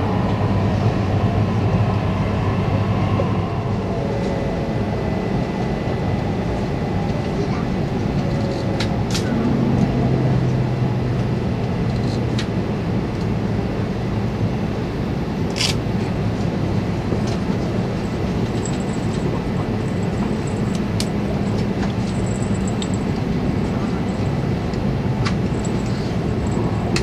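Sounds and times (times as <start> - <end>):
train cabin rumble with hum: 0.0 - 27.0.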